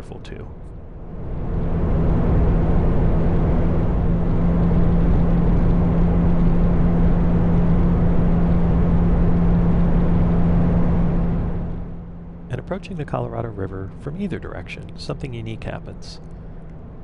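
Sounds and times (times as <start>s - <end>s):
wind and road noise: 0.0s - 13.2s, 13.8s - 17.0s.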